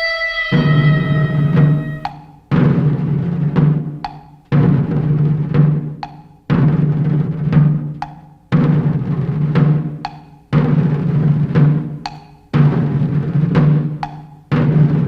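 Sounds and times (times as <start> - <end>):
drum-led background music: 0.0 - 15.0.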